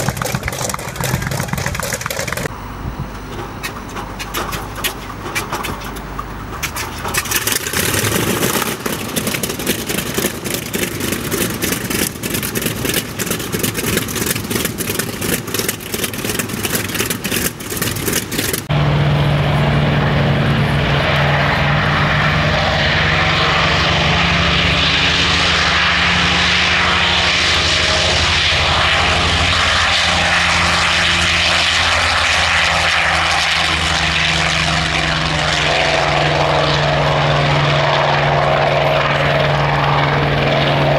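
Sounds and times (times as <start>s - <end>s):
engine drone with propeller noise: 0.0s - 40.9s
radial engine running roughly: 0.0s - 40.9s.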